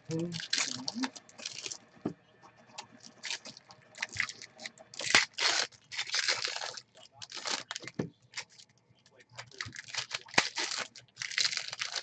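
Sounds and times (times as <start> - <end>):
cards and packaging rustling: 0.4 - 1.8, 2.8 - 12.0.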